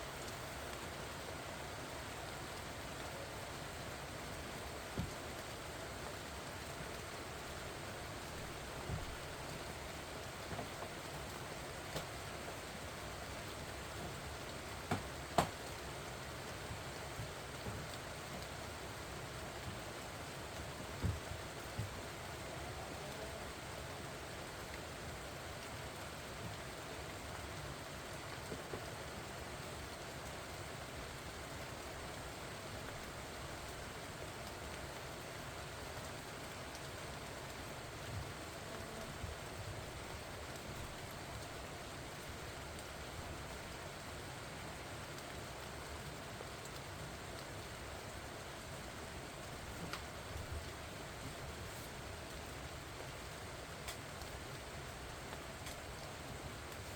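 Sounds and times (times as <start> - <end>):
rain on leaves: 0.0 - 56.9.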